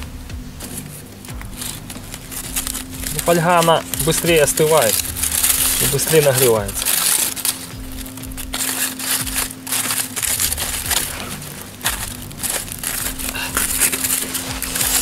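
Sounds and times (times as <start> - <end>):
aluminium foil crinkling: 0.6 - 15.0.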